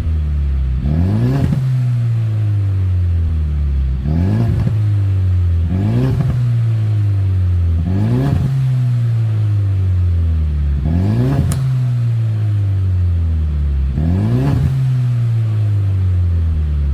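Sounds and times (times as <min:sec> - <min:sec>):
car engine revving: 0:00.0 - 0:16.9
exhaust crack: 0:00.0 - 0:16.9.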